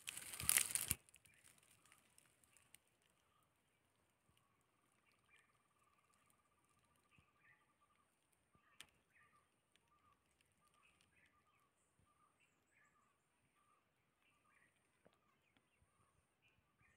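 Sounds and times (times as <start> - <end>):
small bird chirps: 0.0 - 16.9.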